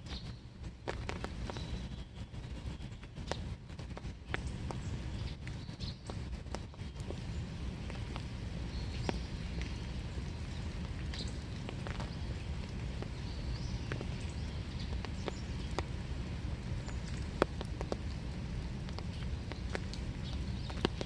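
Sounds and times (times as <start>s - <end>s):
drops ticking on surfaces: 0.0s - 21.0s
rain falling steadily: 0.0s - 21.0s.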